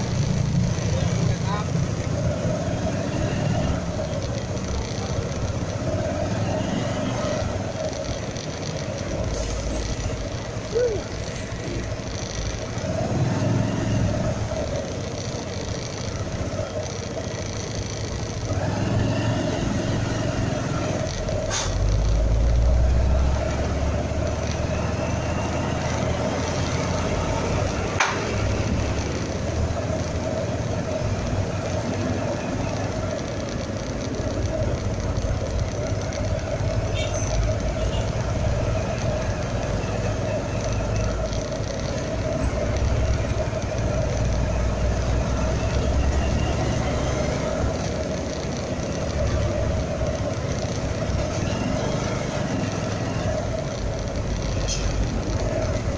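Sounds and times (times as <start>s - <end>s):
deeper engine rumble: 0.0s - 55.9s
sharp clicks: 0.0s - 55.9s
street traffic engines: 0.0s - 55.9s.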